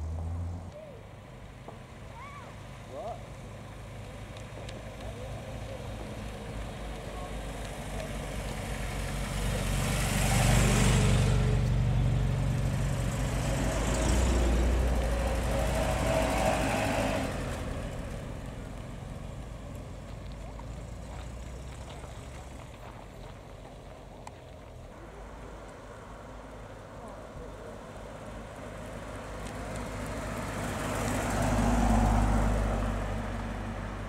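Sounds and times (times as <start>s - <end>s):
car engines driving past: 0.0s - 34.0s.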